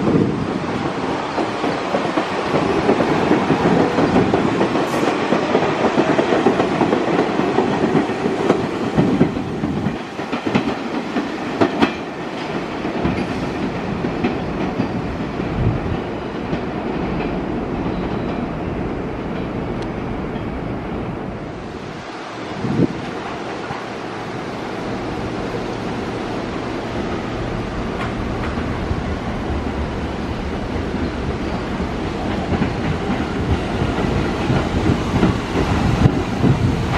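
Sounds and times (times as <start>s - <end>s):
subway train wheels clattering: 0.0s - 36.9s.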